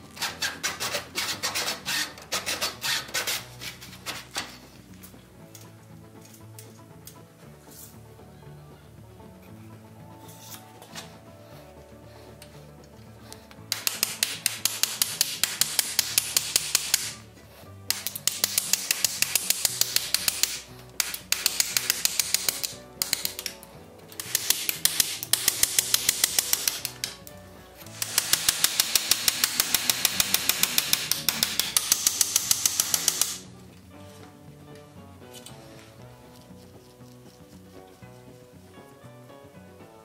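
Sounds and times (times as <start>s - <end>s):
soft background music: 0.0s - 40.0s.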